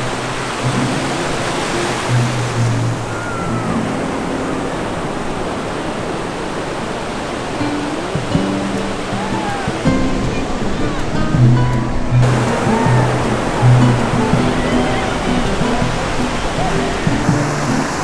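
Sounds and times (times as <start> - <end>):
sea surf washing onto beach: 0.0 - 18.0.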